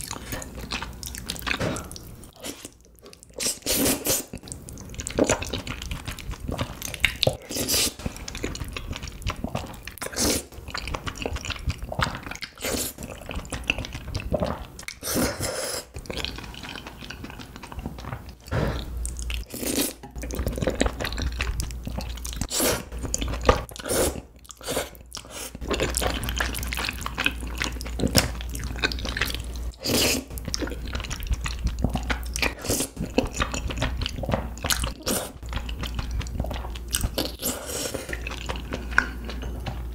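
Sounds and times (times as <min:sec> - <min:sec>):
slurping and chewing noodles: 0:00.0 - 0:39.9.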